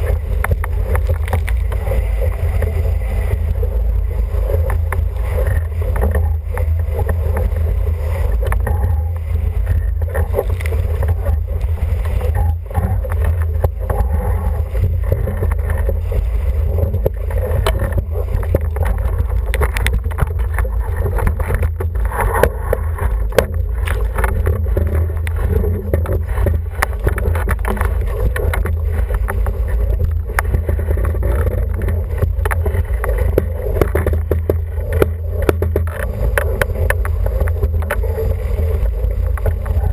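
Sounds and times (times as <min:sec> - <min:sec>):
water rushing past hull: 0:00.0 - 0:39.9
wind buffeting microphone: 0:00.0 - 0:39.9.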